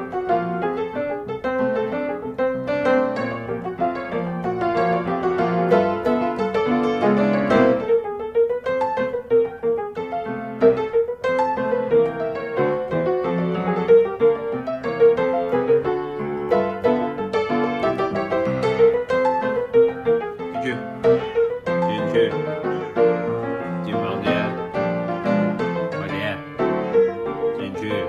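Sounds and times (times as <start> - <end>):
piano music with light notes: 0.0 - 28.0.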